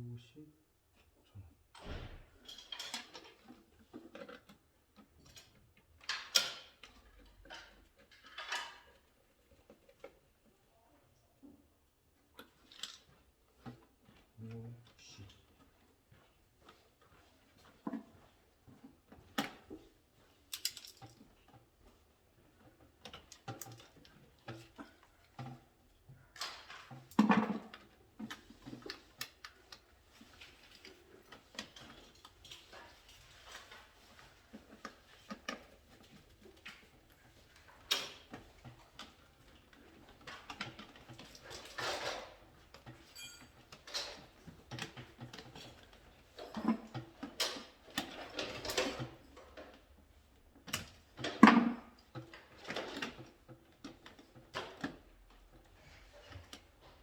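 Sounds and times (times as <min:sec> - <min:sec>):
clicks and rustling of hand work: 0:00.9 - 0:57.0.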